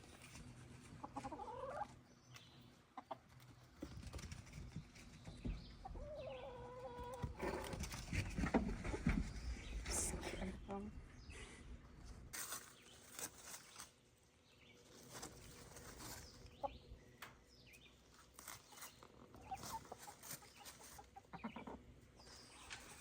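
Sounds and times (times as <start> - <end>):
chickens clucking: 0.2 - 12.0, 14.8 - 23.0.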